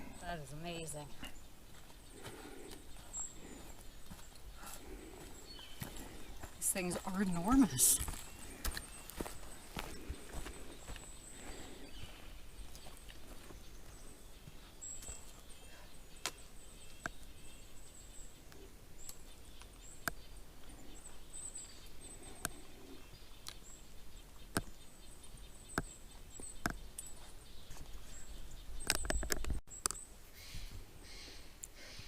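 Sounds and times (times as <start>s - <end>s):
footsteps on forest trail: 0.0s - 18.4s, 19.0s - 29.0s
small birds chirping: 0.0s - 32.0s.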